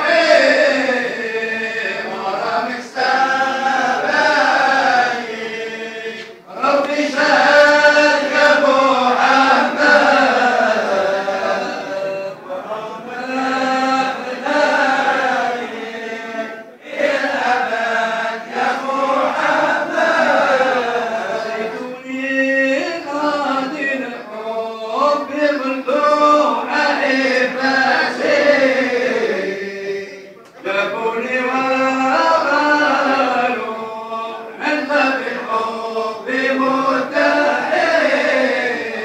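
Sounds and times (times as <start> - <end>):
men chanting together: 0.0 - 39.0.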